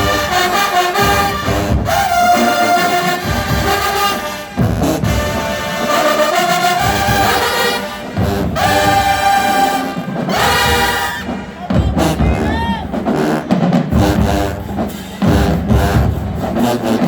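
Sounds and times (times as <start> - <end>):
brass ensemble playing chords: 0.0 - 17.0.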